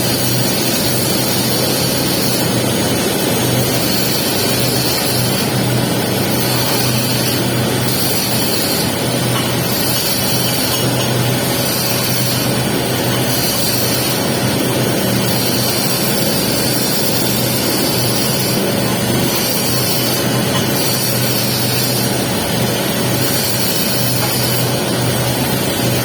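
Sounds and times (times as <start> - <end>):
welding arc crackling: 0.0 - 26.0.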